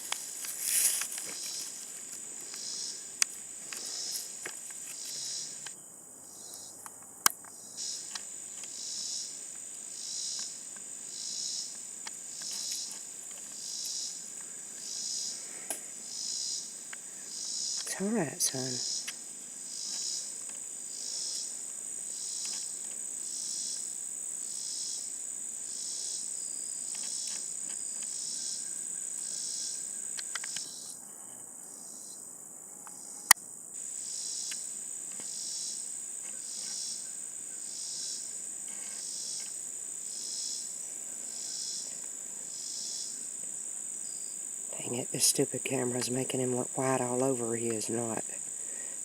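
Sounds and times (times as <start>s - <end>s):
insect high-pitched trill: 0.0s - 31.0s, 31.6s - 49.0s
insect pulsed call: 0.0s - 31.0s, 31.6s - 49.0s.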